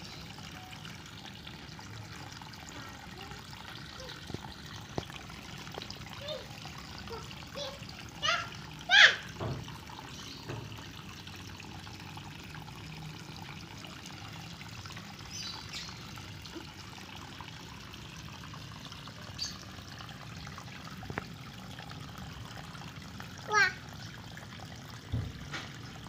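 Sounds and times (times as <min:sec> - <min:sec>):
water trickling into pond: 0:00.0 - 0:26.0.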